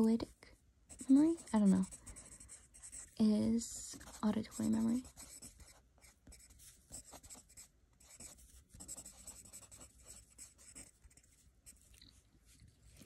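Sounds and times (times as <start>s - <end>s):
pen scratching on paper: 0.9s - 12.0s.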